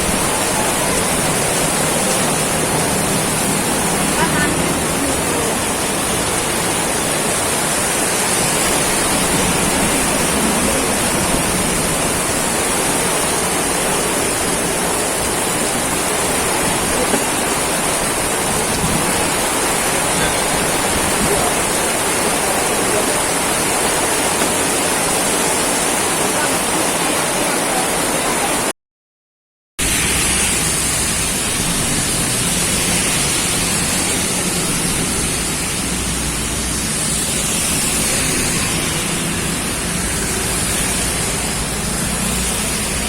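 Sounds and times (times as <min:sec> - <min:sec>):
heavy rain downpour: 0:00.0 - 0:28.7, 0:29.8 - 0:43.0.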